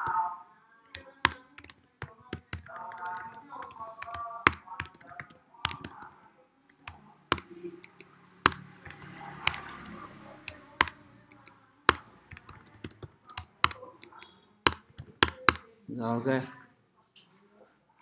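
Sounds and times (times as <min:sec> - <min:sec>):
typing on keyboard: 0:00.0 - 0:00.2, 0:01.0 - 0:15.6.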